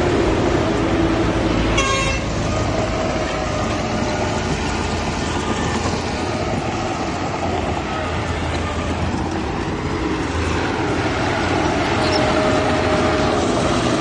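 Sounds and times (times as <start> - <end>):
diesel machinery running: 0.0 - 14.0.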